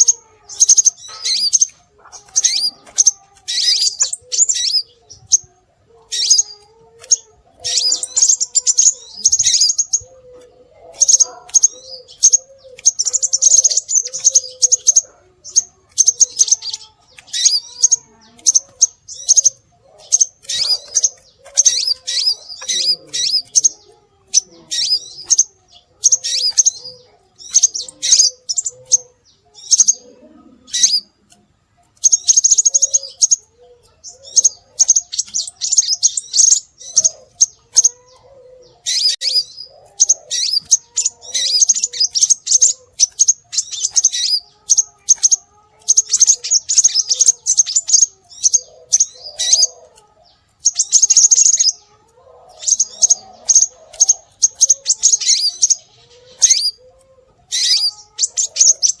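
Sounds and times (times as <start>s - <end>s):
bird high thin chirps: 0.0s - 59.0s.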